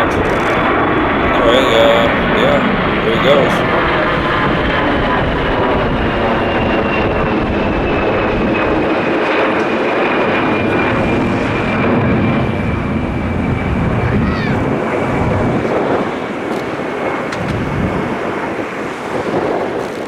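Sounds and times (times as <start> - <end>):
jet engines climbing away: 0.0 - 20.0.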